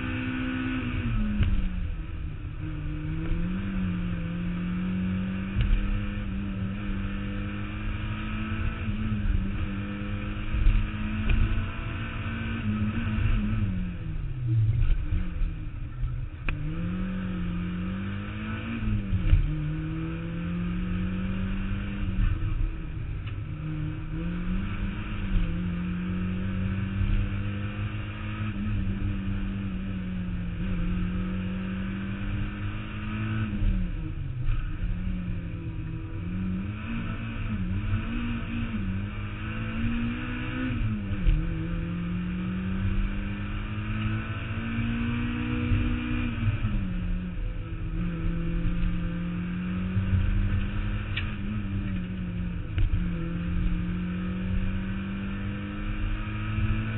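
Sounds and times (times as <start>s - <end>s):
car engine revving and shifting: 0.0s - 56.9s
road and wind rumble: 0.0s - 56.9s.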